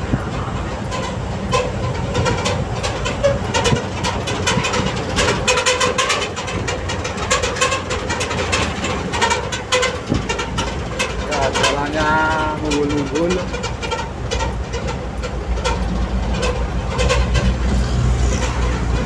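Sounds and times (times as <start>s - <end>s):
cab rattling: 0.0s - 19.0s
truck engine and road rumble: 0.0s - 19.0s.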